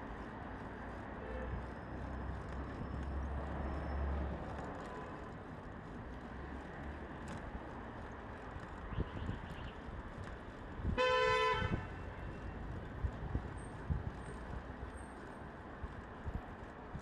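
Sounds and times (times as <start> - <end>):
passing vehicles: 0.0 - 17.0.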